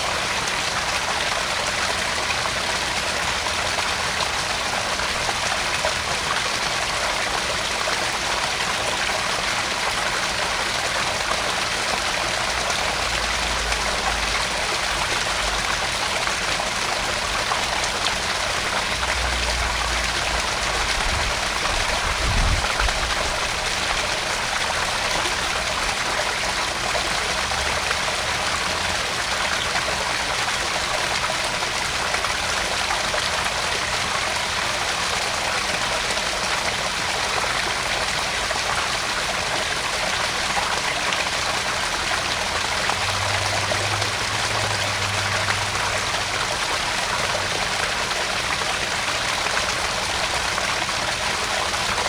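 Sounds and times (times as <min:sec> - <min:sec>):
small waterfall splashing: 0:00.0 - 0:52.0.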